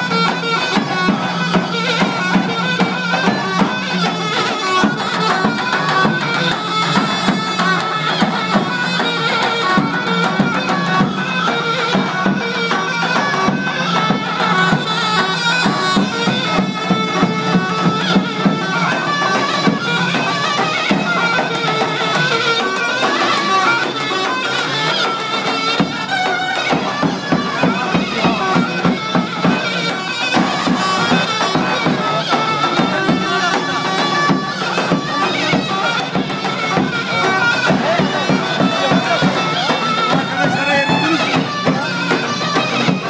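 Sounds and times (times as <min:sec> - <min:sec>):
reedy wind instrument melody: 0:00.0 - 0:43.0.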